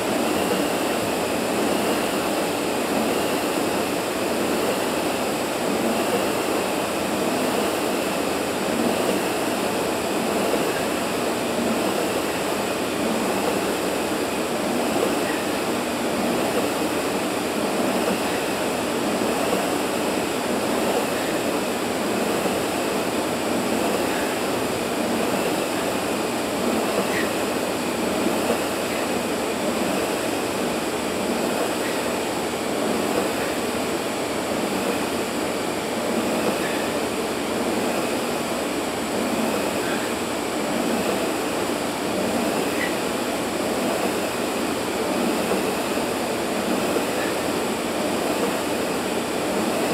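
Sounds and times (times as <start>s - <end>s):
large fan running: 0.0s - 49.9s.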